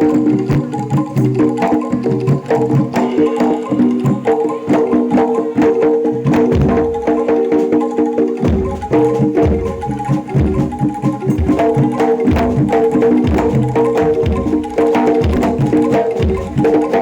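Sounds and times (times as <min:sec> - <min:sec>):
heavy bass drum beats: 0:00.0 - 0:07.7, 0:08.4 - 0:17.0
held melodic line: 0:00.0 - 0:17.0
quick dense drum strokes: 0:00.0 - 0:17.0.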